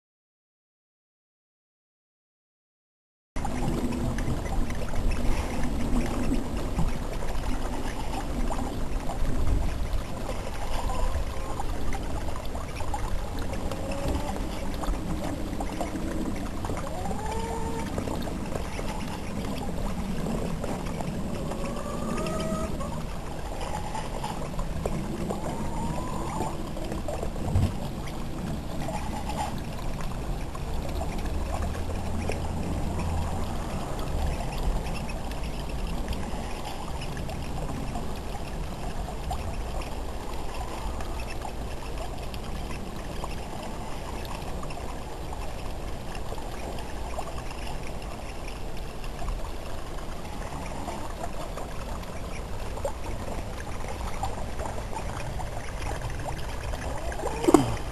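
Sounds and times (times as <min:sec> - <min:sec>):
water trickling into pond: 0:03.4 - 0:57.9.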